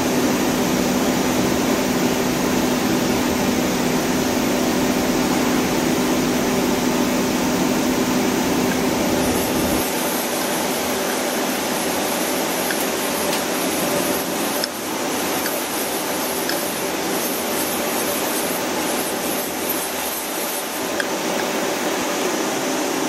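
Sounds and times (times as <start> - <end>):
machine tool humming: 0.0 - 23.0.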